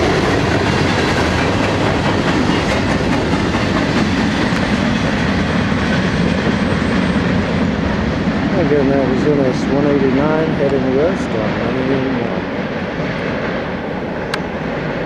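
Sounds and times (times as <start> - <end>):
freight train rumbling past: 0.0 - 15.0
train wheels clattering on rails: 0.0 - 15.0.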